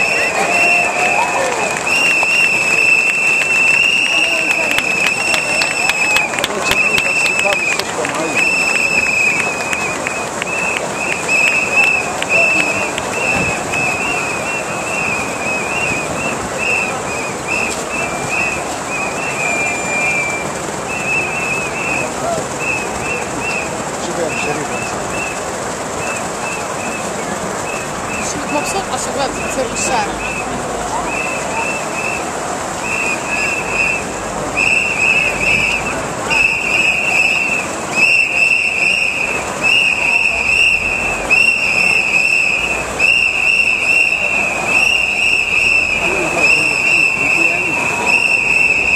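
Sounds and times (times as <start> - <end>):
whistle blasts: 0.0 - 25.4, 26.0 - 48.9
crowd noise: 0.0 - 48.9.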